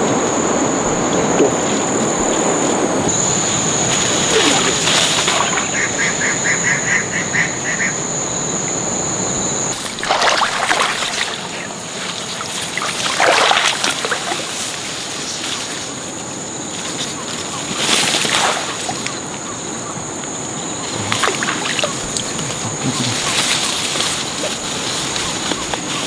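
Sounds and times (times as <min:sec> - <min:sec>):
water splashing and sloshing: 0:00.0 - 0:06.6, 0:09.7 - 0:26.0.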